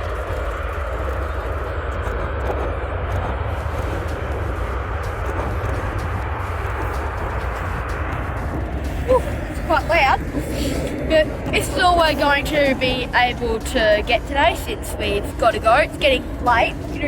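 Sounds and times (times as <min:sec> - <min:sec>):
deep low rumble: 0:00.0 - 0:17.0
jet engines roaring: 0:00.0 - 0:17.0.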